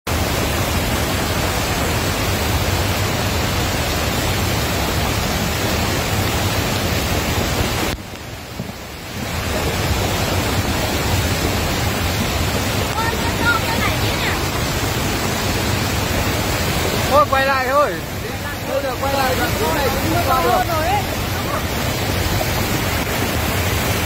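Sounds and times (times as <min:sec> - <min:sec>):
floodwater rushing: 0:00.1 - 0:24.0.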